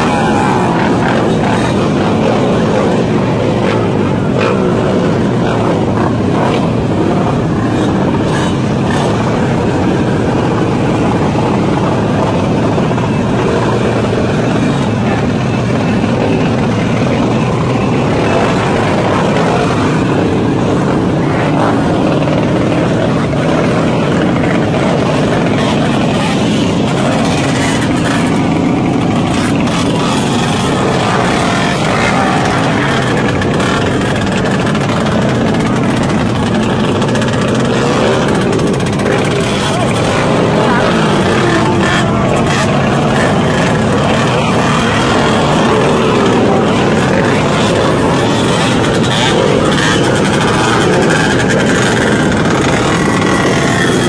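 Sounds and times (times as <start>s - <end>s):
motorcycle engines revving: 0.0s - 54.0s
voices: 0.0s - 54.0s.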